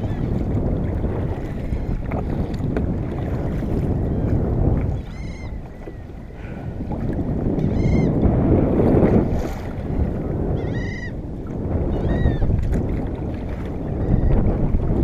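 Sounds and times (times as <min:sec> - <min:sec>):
water washing around kayak: 0:00.0 - 0:15.0
wind buffeting microphone: 0:00.0 - 0:15.0.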